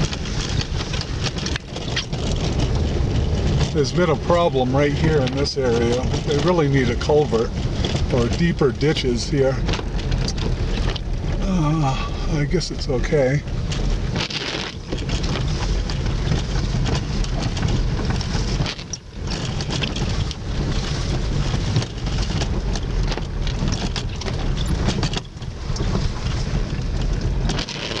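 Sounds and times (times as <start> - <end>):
engine and tyre rumble: 0.0 - 28.0
water and grit crackling under tyres: 0.0 - 28.0.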